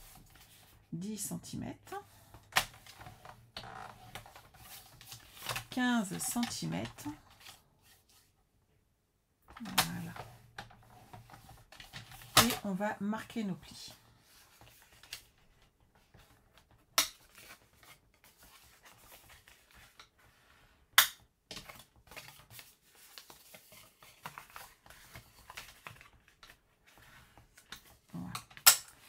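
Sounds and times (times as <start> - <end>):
paper rustling and scraping: 0.0 - 0.9, 2.1 - 8.4, 9.7 - 12.8, 13.7 - 20.9, 21.5 - 29.0.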